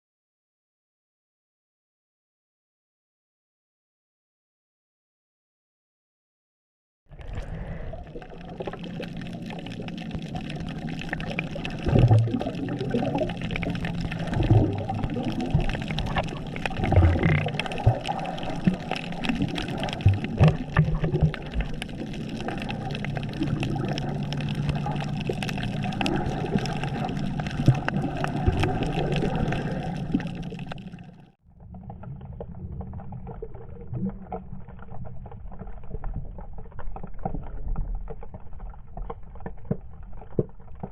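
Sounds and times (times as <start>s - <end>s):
muffled water sound: 7.1s - 40.9s
water sloshing and splashing: 7.1s - 40.9s.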